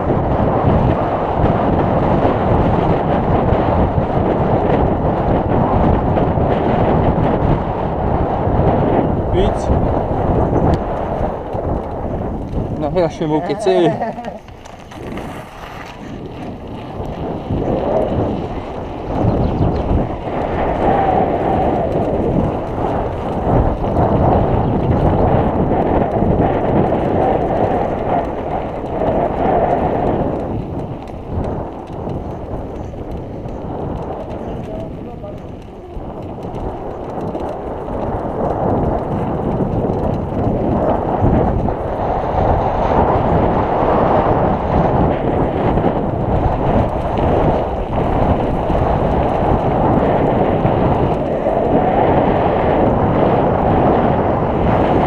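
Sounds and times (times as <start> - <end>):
bike tyres rolling on asphalt: 0.0 - 55.0
wind buffeting microphone: 0.0 - 55.0.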